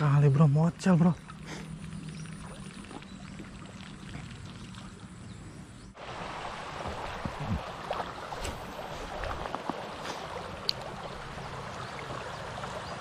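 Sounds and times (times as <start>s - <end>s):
stream water over stones: 0.0s - 13.0s.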